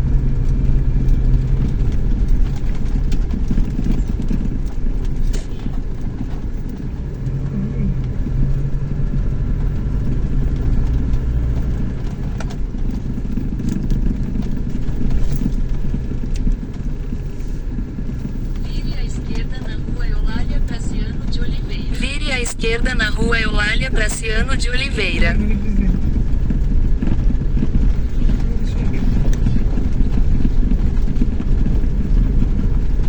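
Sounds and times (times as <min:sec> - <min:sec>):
pickup engine drone: 0:00.0 - 0:33.0
road noise: 0:00.0 - 0:33.0.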